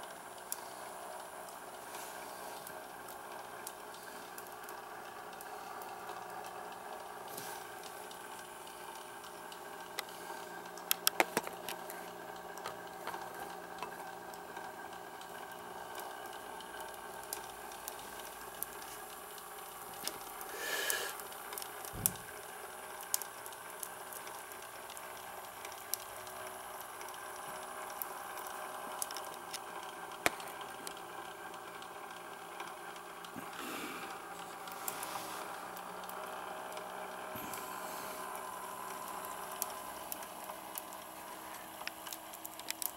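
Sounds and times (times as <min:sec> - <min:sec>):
steam boiler hissing and bubbling: 0:00.0 - 0:42.9.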